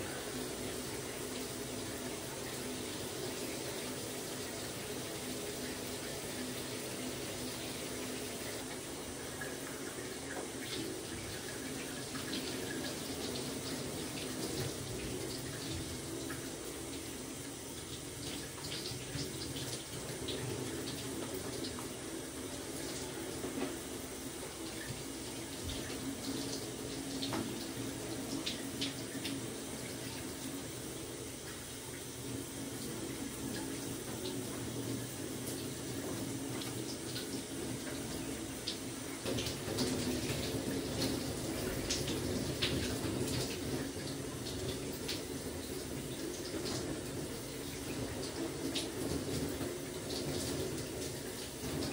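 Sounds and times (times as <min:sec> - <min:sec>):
water running: 0:00.0 - 0:51.9.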